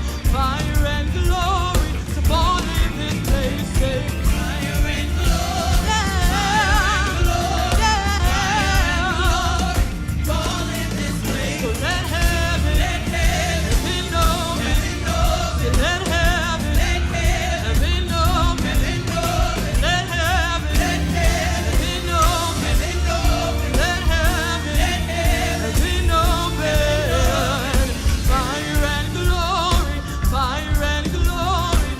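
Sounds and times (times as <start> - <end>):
band with drums and bass: 0.0 - 31.9
singers holding long notes: 1.4 - 31.9.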